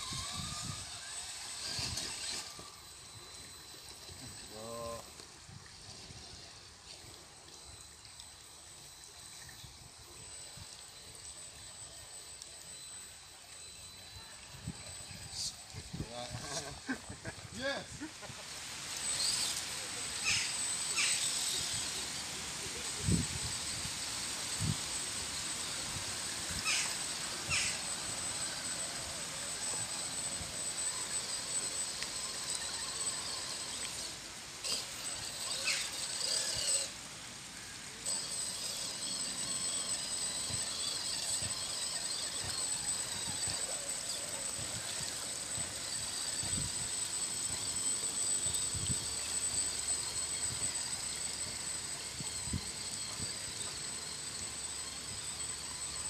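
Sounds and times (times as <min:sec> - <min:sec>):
thin steady high tone: 0:00.0 - 0:56.0.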